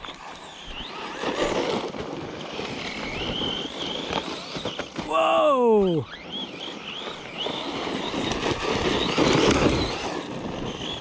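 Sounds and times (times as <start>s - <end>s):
rc truck motor whine: 0.0s - 11.0s
tyres churning dirt: 0.0s - 11.0s.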